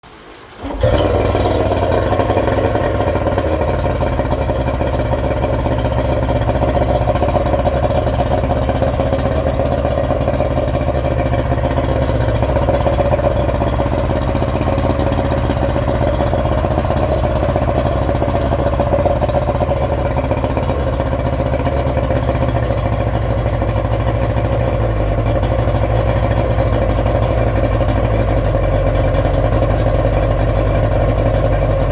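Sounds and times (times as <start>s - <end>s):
outboard motor running: 0.5s - 31.9s.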